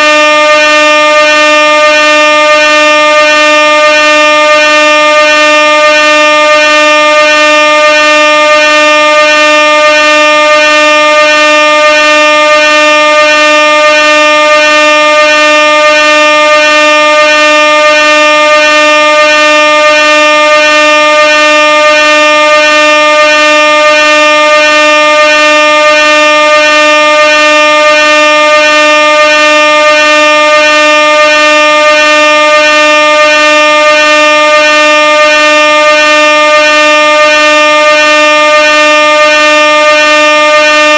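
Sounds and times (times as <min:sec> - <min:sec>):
air horn steady tone: 0:00.0 - 0:40.9.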